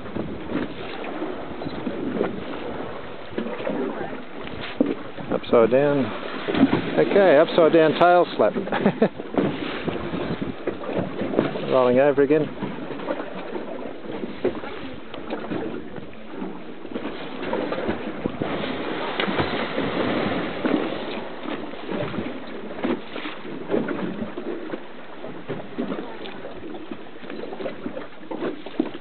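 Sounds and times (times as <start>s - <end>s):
wind and sea noise: 0.0s - 29.0s.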